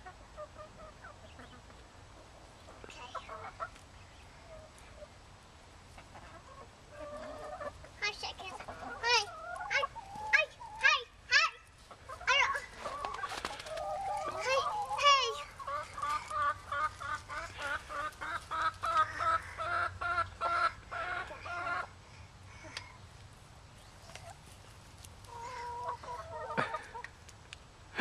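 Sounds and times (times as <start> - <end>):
hens clucking: 0.0 - 5.2, 5.8 - 22.0, 23.9 - 27.3.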